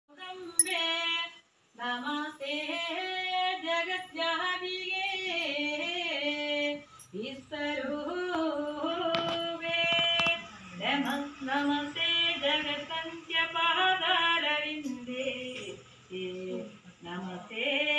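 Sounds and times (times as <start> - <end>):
women singing devotional song: 0.1 - 17.9.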